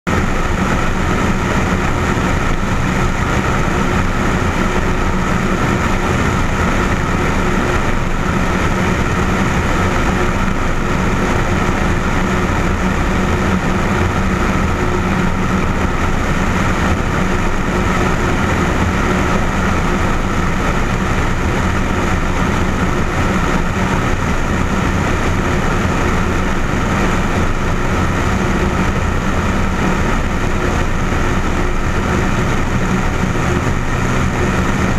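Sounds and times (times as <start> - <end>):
light aircraft engine and propeller: 0.0 - 34.9
wind rushing over camera: 0.1 - 34.9.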